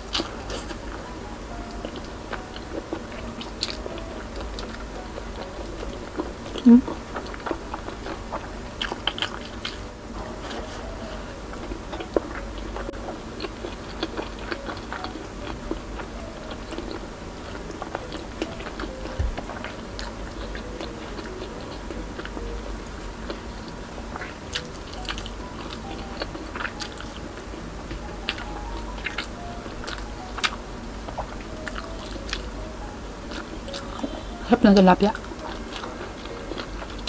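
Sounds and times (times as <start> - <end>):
person chewing: 0.0 - 34.4, 35.1 - 37.0
faint music: 0.0 - 37.0.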